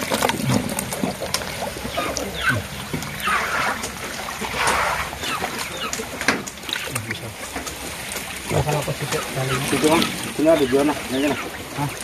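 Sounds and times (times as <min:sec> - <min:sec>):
water splashing and dribbling: 0:00.0 - 0:12.0.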